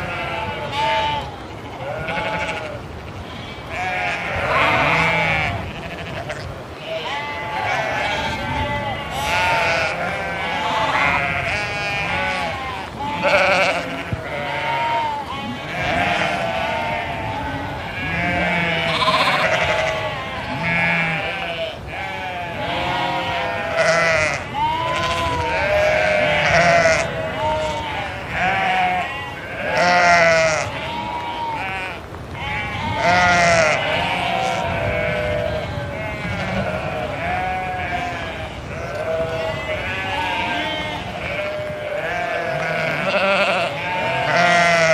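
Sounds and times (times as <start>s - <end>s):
sheep bleating: 0.0s - 44.9s.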